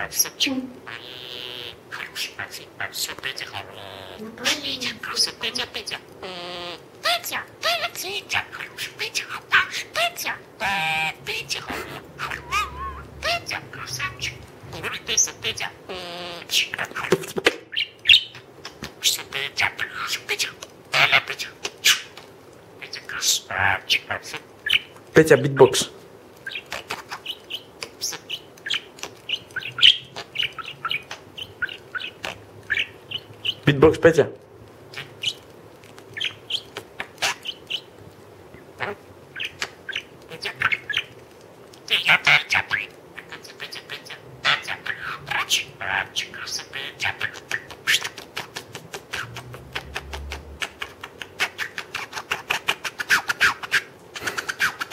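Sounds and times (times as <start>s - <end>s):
parrot clicking and chirping: 0.0s - 54.9s.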